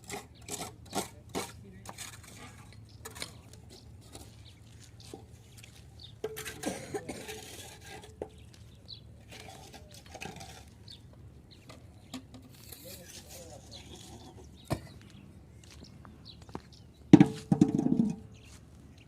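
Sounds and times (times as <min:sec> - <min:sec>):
hand tools clinking and scraping: 0:00.0 - 0:15.0, 0:17.1 - 0:18.5.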